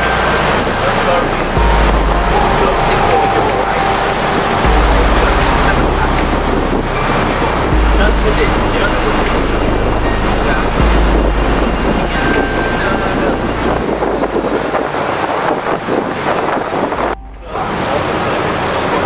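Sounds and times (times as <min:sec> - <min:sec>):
low engine rumble: 0:00.0 - 0:19.0
rushing sea water: 0:00.0 - 0:19.0
wind buffeting microphone: 0:00.0 - 0:19.0.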